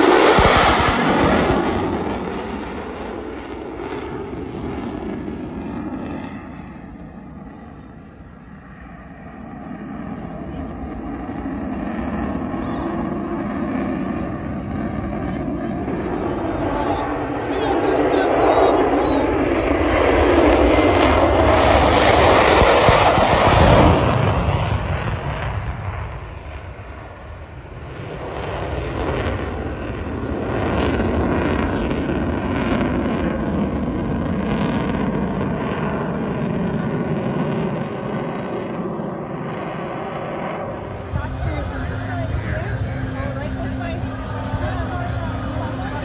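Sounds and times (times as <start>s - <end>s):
fighter jet flying past: 0.0s - 46.0s.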